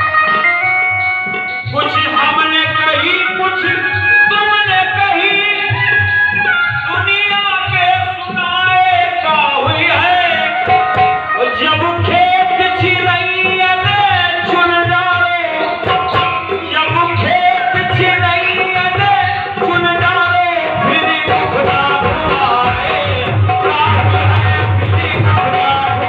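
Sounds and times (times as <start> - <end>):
person singing: 0.0 - 26.0
hand drum beat: 4.7 - 26.0.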